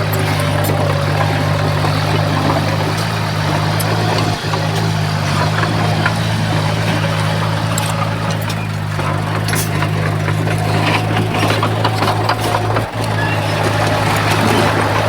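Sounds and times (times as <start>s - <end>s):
bulldozer diesel engine under load: 0.0s - 15.0s
metallic clanks and rattles: 0.0s - 15.0s.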